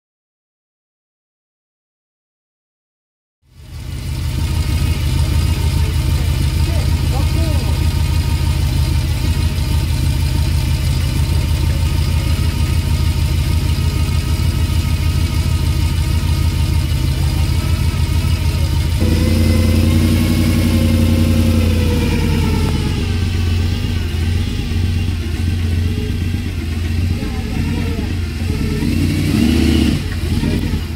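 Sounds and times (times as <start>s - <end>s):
truck engine idling and revving: 3.4s - 30.9s.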